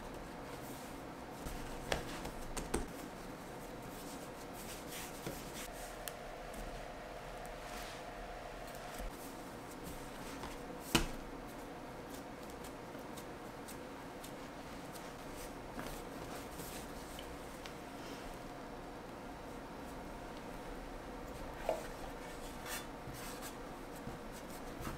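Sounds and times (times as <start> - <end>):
hands working bread dough: 0.0 - 18.5, 19.8 - 24.9
faint steady hum: 0.0 - 24.9.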